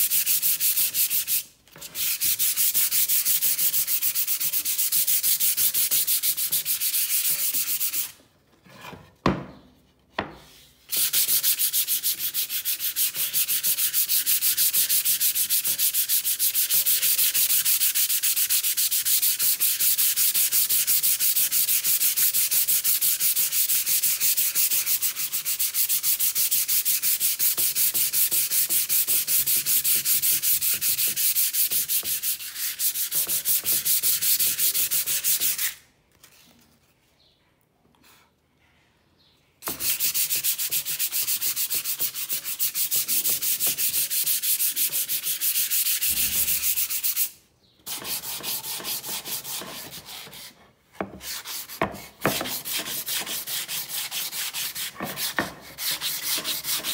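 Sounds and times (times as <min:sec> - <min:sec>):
sandpaper rubbing wood: 0:00.0 - 0:08.2, 0:10.9 - 0:35.8, 0:39.6 - 0:50.6, 0:51.2 - 0:56.9.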